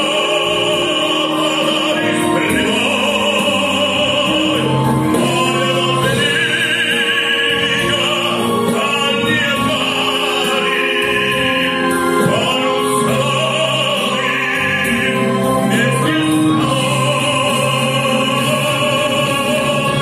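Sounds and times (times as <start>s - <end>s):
man singing through speaker: 0.0s - 20.0s.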